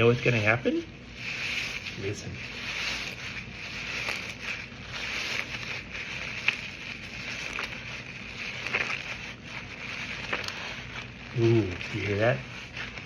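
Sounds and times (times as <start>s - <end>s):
slime squeezed by hand crackling: 0.0s - 13.0s.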